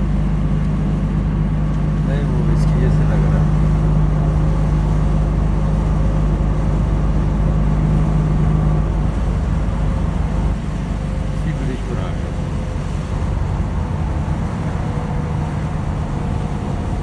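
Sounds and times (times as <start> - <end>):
low hum: 0.0 - 17.0
road and engine rumble: 0.0 - 17.0.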